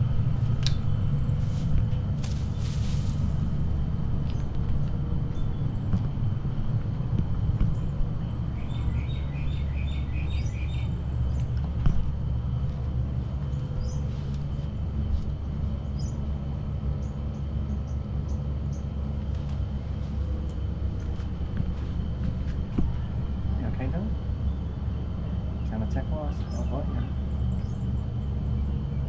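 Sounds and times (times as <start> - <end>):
low rumble: 0.0 - 29.0
birds chirping: 3.8 - 29.0.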